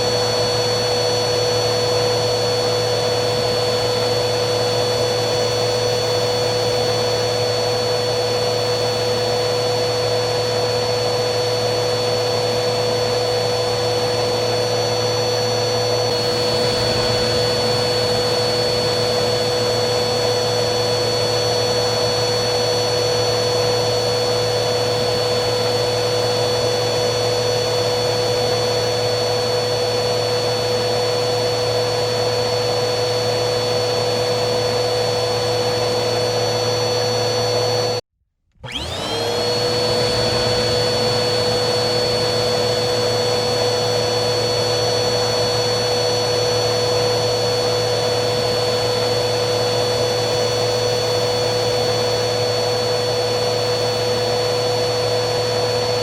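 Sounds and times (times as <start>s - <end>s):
vacuum cleaner motor whining: 0.0s - 56.0s.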